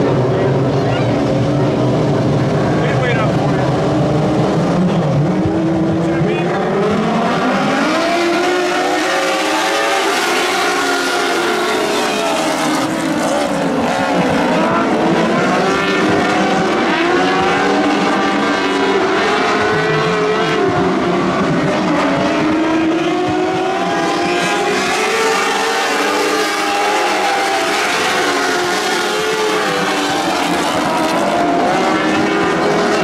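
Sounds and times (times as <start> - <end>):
racing car engines at high revs: 0.0 - 33.0.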